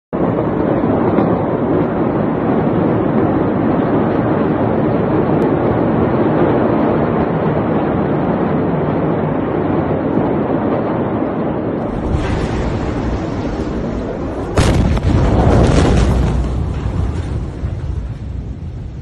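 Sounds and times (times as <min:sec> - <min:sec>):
wind rushing over microphone: 0:00.2 - 0:19.0.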